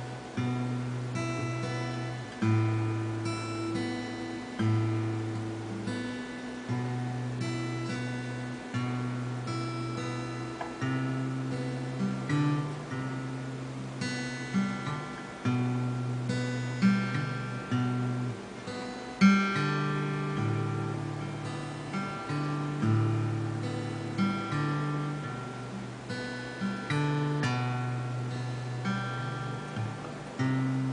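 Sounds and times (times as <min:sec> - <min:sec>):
acoustic guitar strummed: 0:00.0 - 0:30.9.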